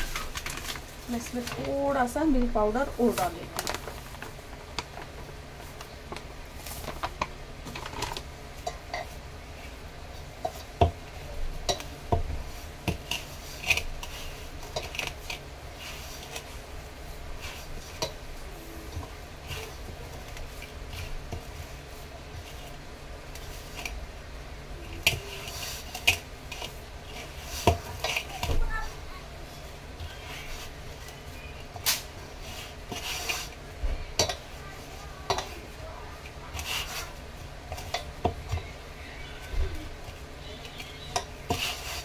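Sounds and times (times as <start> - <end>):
hands kneading dough: 0.0 - 42.0.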